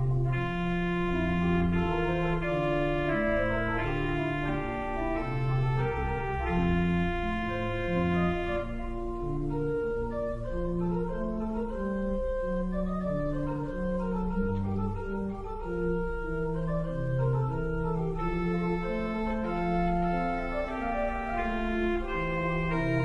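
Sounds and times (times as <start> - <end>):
church organ chords: 0.0 - 23.0.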